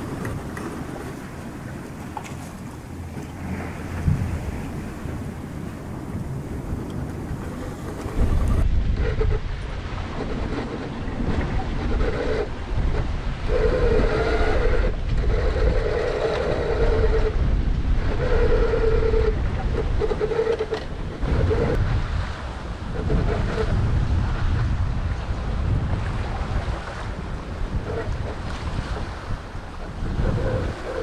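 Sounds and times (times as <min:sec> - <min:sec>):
rushing sea: 0:00.0 - 0:31.0
wind buffeting microphone: 0:00.0 - 0:31.0.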